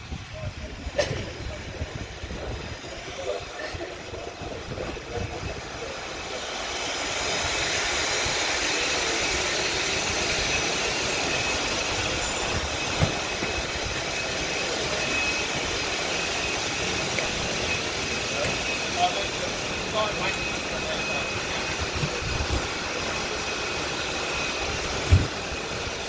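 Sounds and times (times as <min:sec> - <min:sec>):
distant racing car engines drone: 0:00.0 - 0:26.0.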